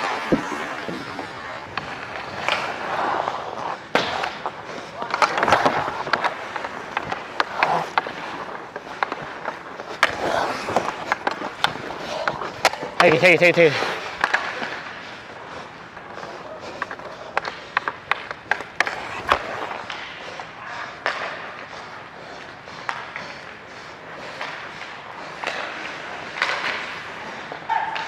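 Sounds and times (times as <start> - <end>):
hockey sticks and puck clacking: 0.0 - 28.0
skate blades scraping ice: 0.0 - 28.0.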